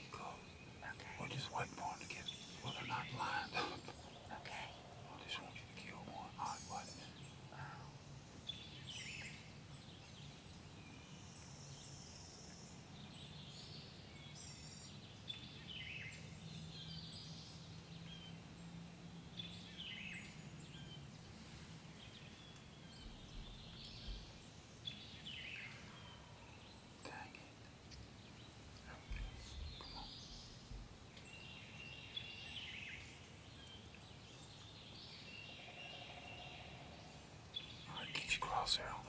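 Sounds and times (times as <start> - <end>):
songbirds chirping and singing: 0.0 - 39.0.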